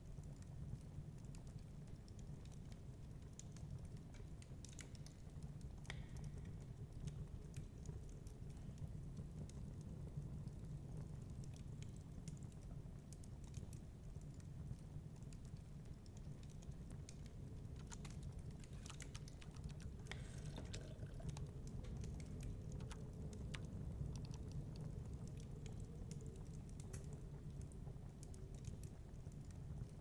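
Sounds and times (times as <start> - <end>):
low fire rumble: 0.0 - 30.0
wood fire crackling: 0.0 - 30.0.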